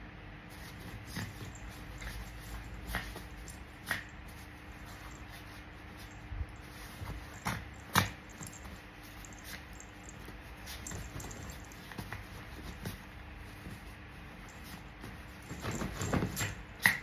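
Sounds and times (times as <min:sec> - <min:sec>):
faint steady hum: 0:00.0 - 0:17.0
puppy paws tapping and clicking: 0:00.5 - 0:17.0.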